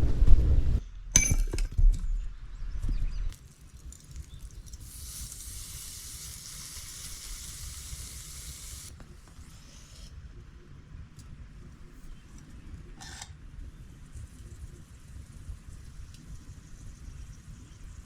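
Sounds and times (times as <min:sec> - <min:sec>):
steady hiss: 0:03.4 - 0:18.0.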